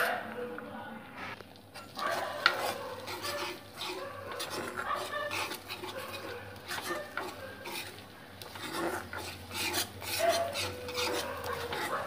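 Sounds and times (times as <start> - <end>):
spoon scraping a pan: 1.7 - 12.0.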